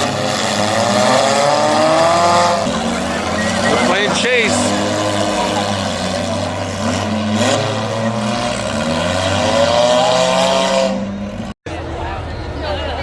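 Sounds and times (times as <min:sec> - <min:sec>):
car engines revving hard: 0:00.0 - 0:11.6.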